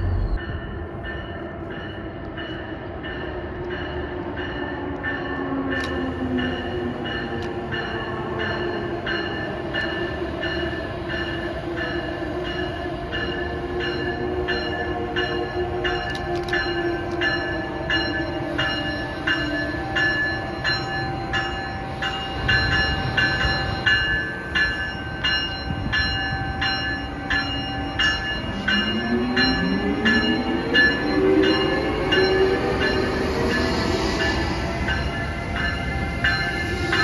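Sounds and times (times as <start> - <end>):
locomotive bell ringing: 0.0 - 37.0
train whine: 0.0 - 37.0.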